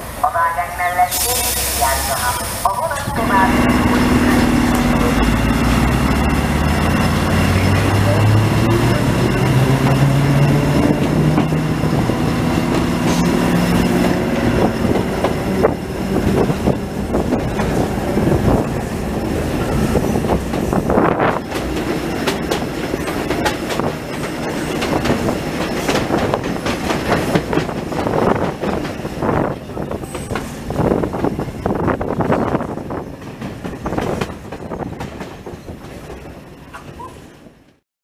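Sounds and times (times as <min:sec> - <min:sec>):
train rumble: 0:00.0 - 0:37.8
wheels clattering over rail joints: 0:03.3 - 0:37.8.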